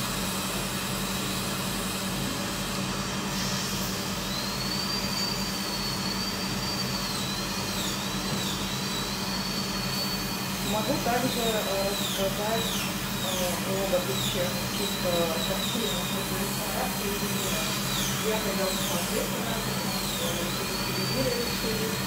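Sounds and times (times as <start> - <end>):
dental drill whining: 0.0 - 22.0.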